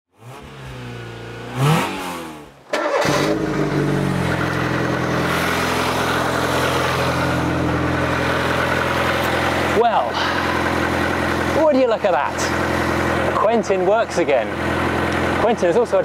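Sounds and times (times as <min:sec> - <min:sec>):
car engine starting and idling: 0:00.2 - 0:16.0.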